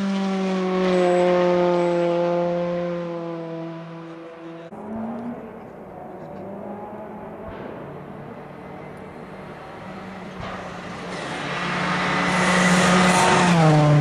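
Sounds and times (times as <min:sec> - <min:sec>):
rally car engine approaching: 0:00.0 - 0:14.0.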